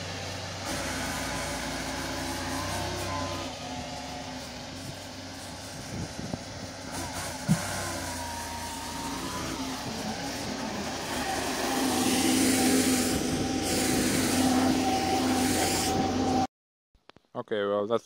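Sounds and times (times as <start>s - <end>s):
tractor engine running: 0.0s - 16.5s.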